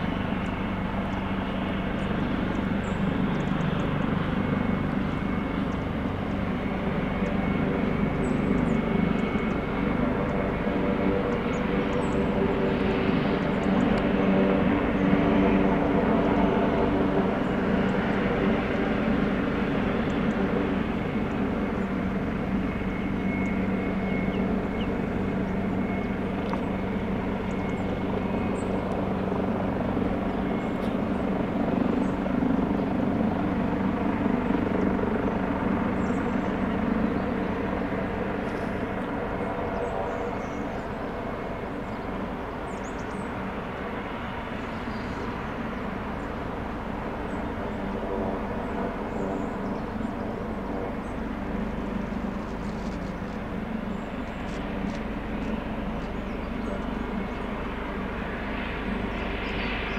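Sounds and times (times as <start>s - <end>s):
helicopter engine and rotor whine: 0.0s - 59.9s.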